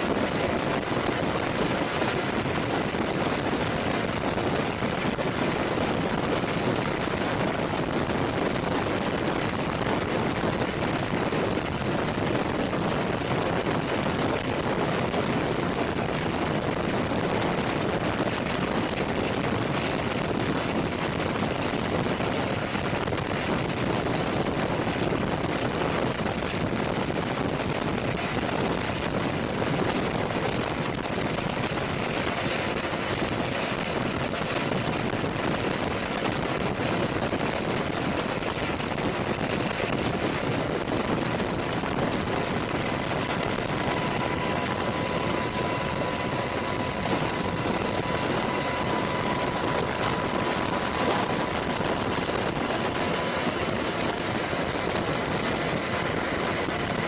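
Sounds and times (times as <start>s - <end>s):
aircraft noise rushing: 0.0s - 57.0s.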